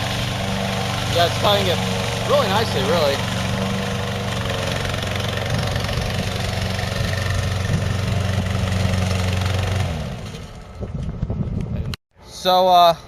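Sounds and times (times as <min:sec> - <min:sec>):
mower gas engine running: 0:00.0 - 0:10.8.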